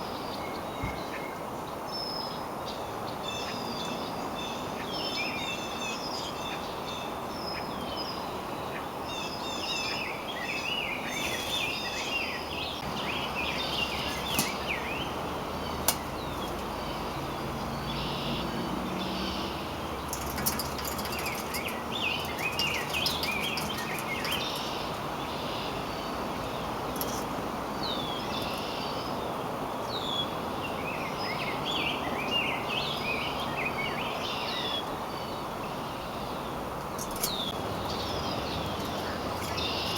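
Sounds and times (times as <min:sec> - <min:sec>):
low rushing background noise: 0:00.0 - 0:39.9
songbirds chirping: 0:00.0 - 0:39.9.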